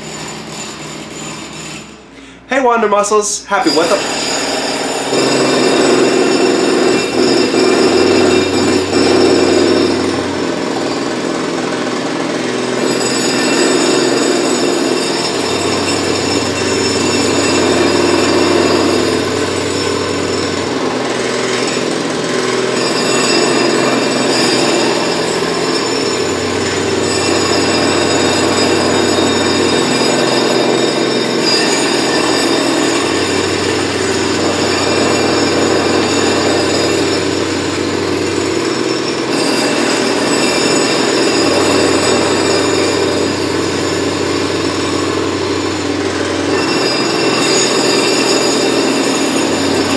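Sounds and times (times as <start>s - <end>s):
jackhammer rattling: 0.0s - 2.5s, 3.5s - 49.9s.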